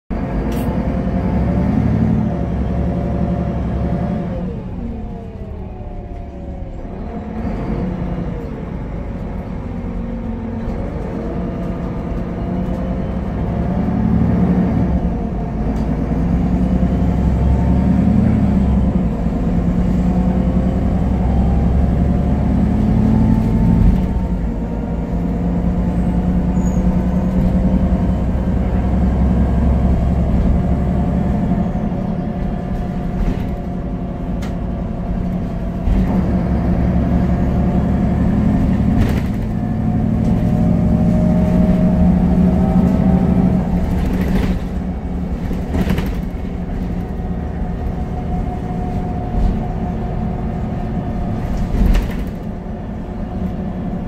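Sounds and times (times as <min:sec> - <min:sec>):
bus diesel engine: 0:00.1 - 0:54.0.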